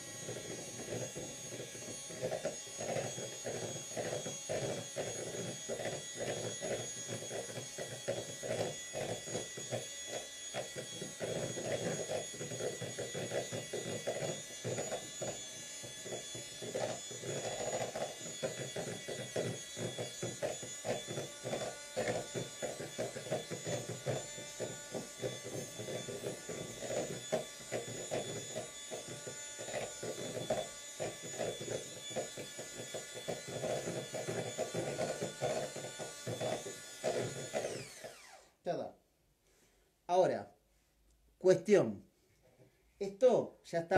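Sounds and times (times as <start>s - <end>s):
electric hand mixer whipping cream: 0.0s - 38.6s.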